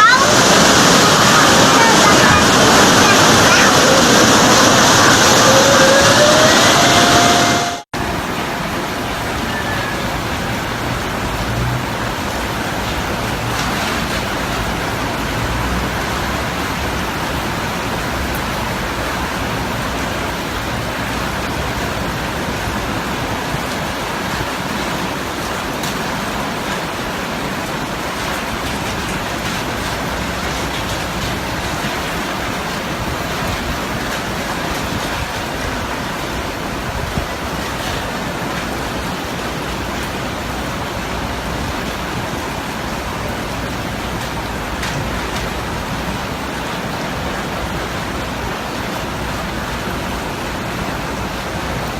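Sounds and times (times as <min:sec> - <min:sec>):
rain: 0:00.0 - 0:51.9
wind: 0:00.0 - 0:51.9.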